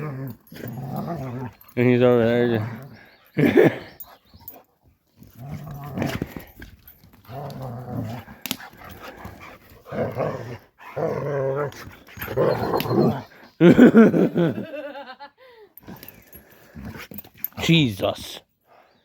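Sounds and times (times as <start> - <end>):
dog growling and grumbling: 0.0 - 4.0, 5.2 - 14.7, 15.8 - 17.6.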